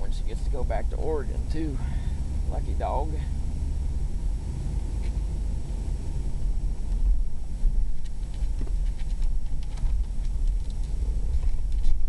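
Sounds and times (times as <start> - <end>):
road noise rumble: 0.0 - 12.0.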